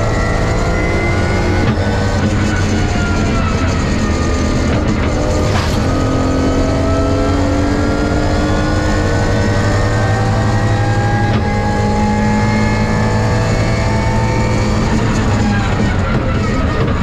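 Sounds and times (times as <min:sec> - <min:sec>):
car engine revving hard: 0:00.0 - 0:17.0
road noise: 0:00.0 - 0:17.0.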